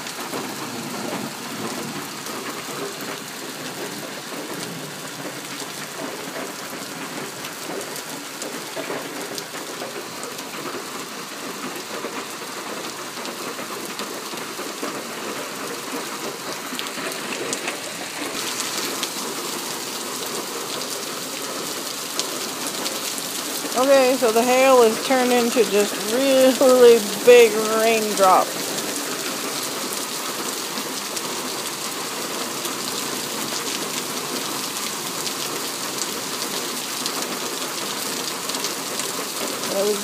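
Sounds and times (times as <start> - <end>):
heavy rain hissing: 0.0 - 40.0.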